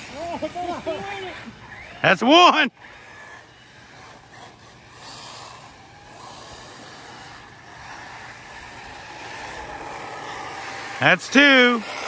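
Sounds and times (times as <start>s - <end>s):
rc car motor whine: 0.0s - 12.0s.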